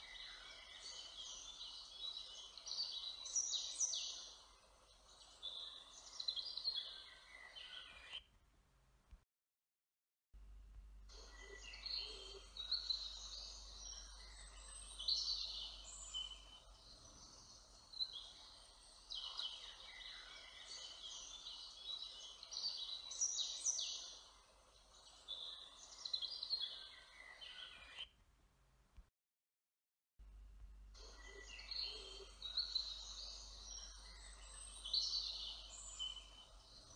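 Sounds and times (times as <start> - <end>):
songbirds chirping and trilling: 0.0 - 8.3, 11.1 - 28.2, 31.0 - 36.9
faint outdoor background noise: 0.0 - 9.2, 10.4 - 29.1, 30.2 - 36.9.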